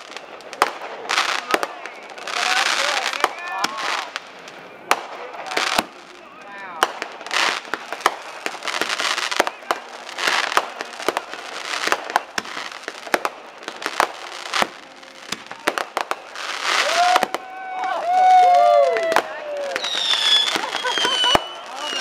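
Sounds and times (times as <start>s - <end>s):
fireworks bangs and cracks: 0.0s - 22.0s
fireworks crackling hiss: 0.0s - 22.0s.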